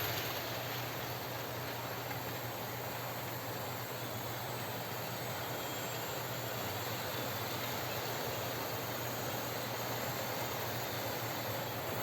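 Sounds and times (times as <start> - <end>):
model locomotive humming: 0.0 - 12.0.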